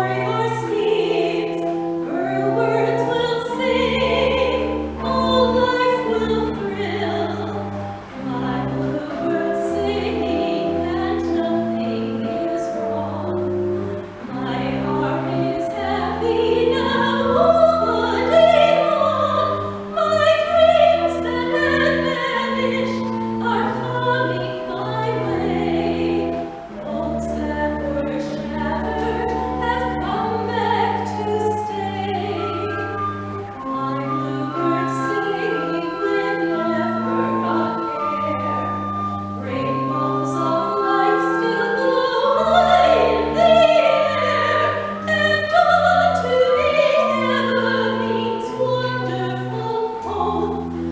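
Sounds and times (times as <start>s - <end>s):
organ chords: 0.0s - 50.9s
person singing with vibrato: 0.0s - 50.9s.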